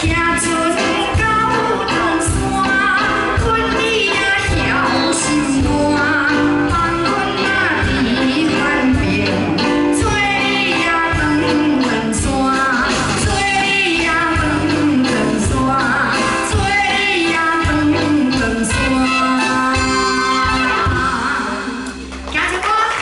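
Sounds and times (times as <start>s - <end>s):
live band with drums: 0.0s - 23.0s
woman singing into microphone: 0.0s - 23.0s.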